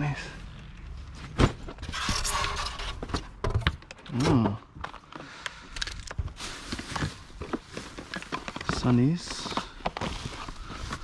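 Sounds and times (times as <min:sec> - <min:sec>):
rustling of clothes and rubbish: 0:00.0 - 0:11.0.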